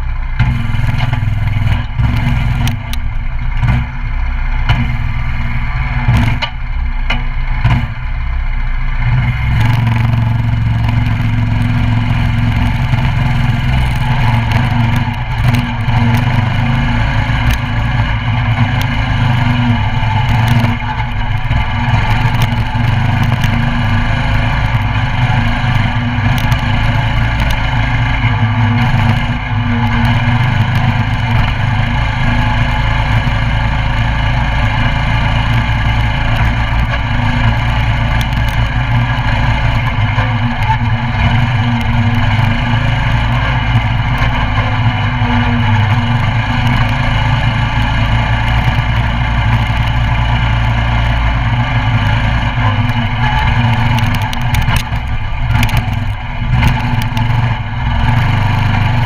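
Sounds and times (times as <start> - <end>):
engine knocks and rattles: 0.0 - 59.0
mini bike engine running: 0.0 - 59.0.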